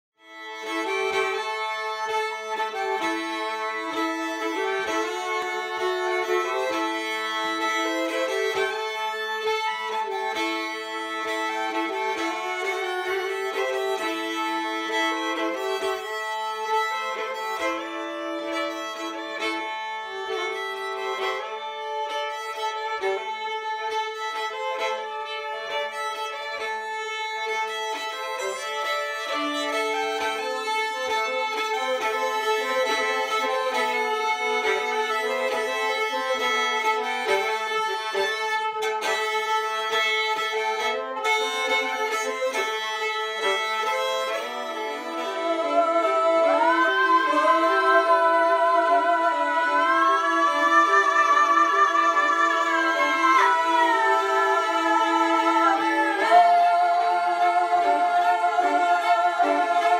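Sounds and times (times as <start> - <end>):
fiddle melody: 0.0 - 59.9
fiddle drone notes: 0.3 - 59.9.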